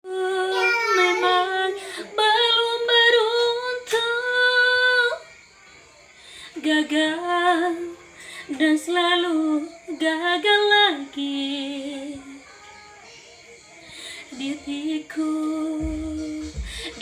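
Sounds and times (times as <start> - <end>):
woman singing slow song: 0.0 - 5.6, 6.2 - 17.0.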